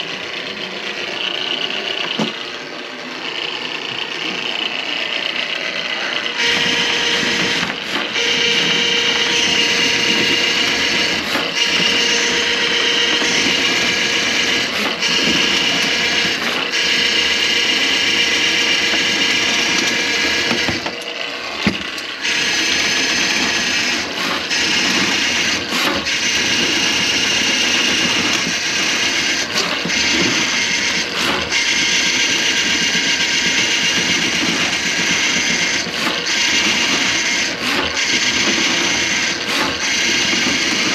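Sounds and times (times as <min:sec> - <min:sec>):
drain-cleaning machine running: 0:00.0 - 0:40.9.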